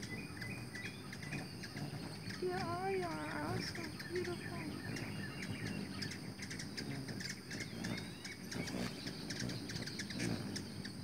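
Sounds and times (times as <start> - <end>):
hummingbird wings humming: 0.0 - 11.0
hummingbirds chirping: 0.0 - 11.0.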